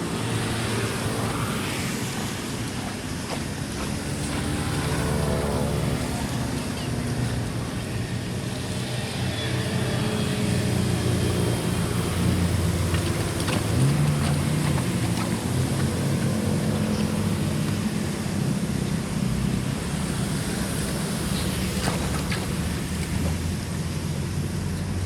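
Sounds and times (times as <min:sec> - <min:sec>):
engine running: 0:00.0 - 0:25.0
steady rushing noise: 0:00.0 - 0:25.0.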